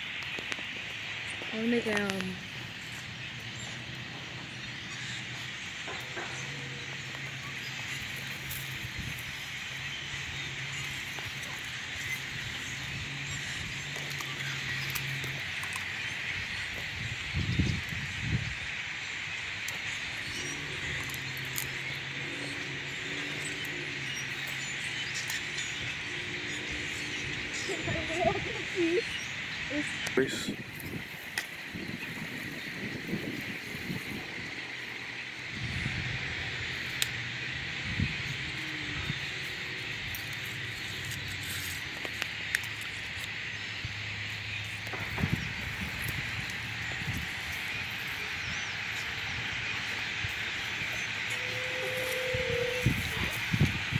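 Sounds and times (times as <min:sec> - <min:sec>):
flock of blackbirds calling: 0:00.0 - 0:53.9.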